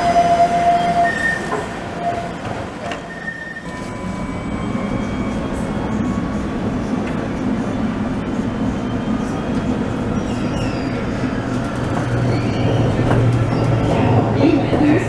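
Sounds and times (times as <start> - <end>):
tram electric whine: 0.0 - 15.0.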